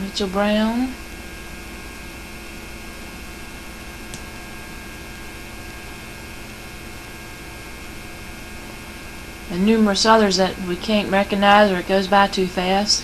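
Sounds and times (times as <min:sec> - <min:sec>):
tape hiss and electrical hum: 0:00.0 - 0:13.0.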